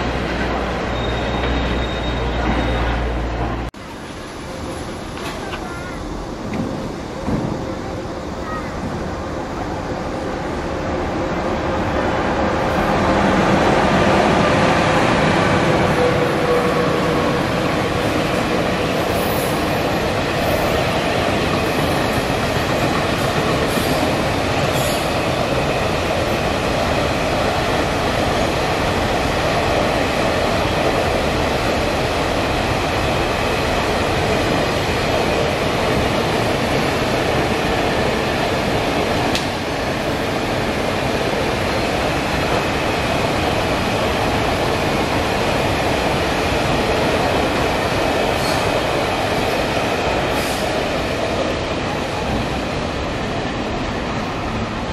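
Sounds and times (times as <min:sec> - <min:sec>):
electric locomotive passing: 0:00.0 - 0:54.9.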